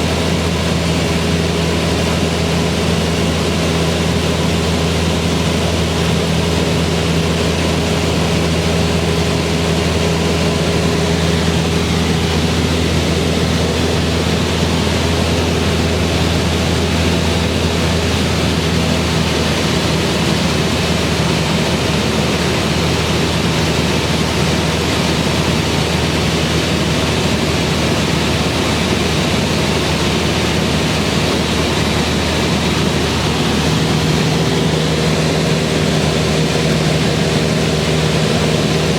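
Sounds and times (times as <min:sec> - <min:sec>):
airflow rushing: 0:00.0 - 0:23.4, 0:24.0 - 0:38.9
light aircraft engine in flight: 0:00.0 - 0:38.9.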